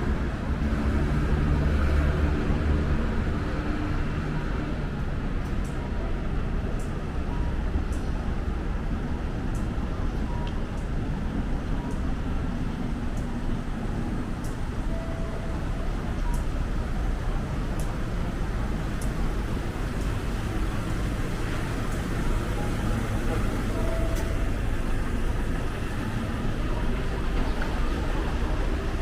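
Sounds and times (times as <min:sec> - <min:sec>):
road vehicles rumbling past: 0:00.0 - 0:29.0.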